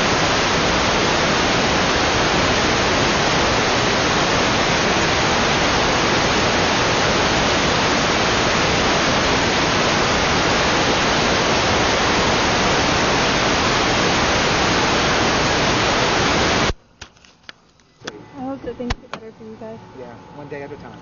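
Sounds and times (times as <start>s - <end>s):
loud static hiss: 0.0s - 21.0s.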